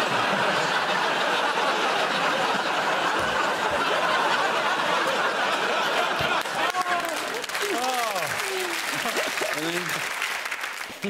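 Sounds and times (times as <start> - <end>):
audience laughing: 0.0 - 10.2.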